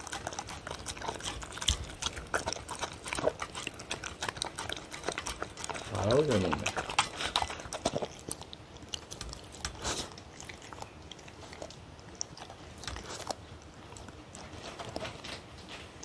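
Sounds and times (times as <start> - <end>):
dog chewing and eating: 0.0 - 16.0.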